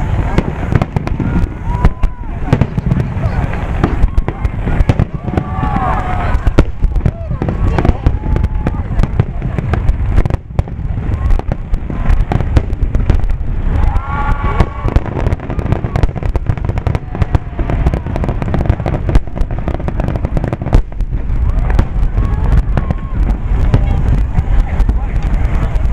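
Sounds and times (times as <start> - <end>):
low booming rumble: 0.0 - 25.9.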